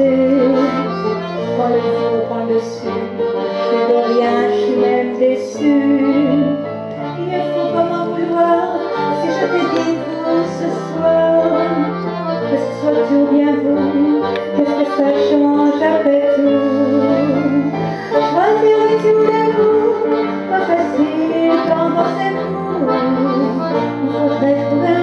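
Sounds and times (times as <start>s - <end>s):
instrumental accompaniment: 0.0s - 25.0s
woman singing with vibrato: 0.0s - 25.0s.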